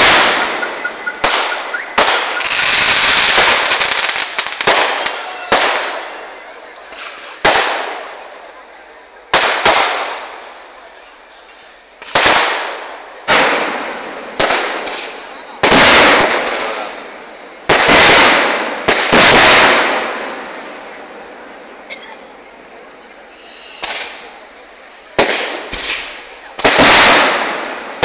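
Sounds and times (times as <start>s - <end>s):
fireworks exploding: 0.0s - 28.0s.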